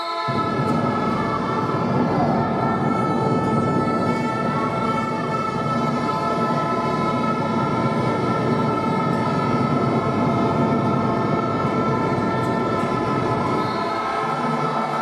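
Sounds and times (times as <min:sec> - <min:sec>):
crowd din in a sports hall: 0:00.0 - 0:15.0
steady held tones: 0:00.3 - 0:15.0.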